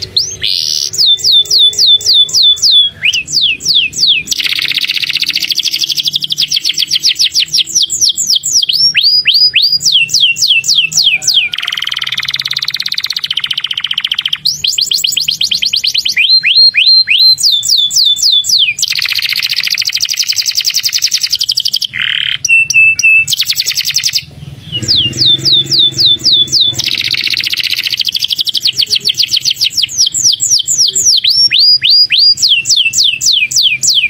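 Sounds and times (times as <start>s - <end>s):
canary singing: 0.0s - 34.0s.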